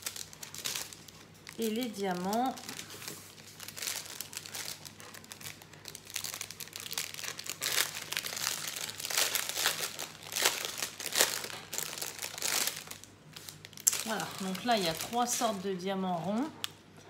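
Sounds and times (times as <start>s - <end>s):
plastic bags crinkling: 0.0s - 16.8s.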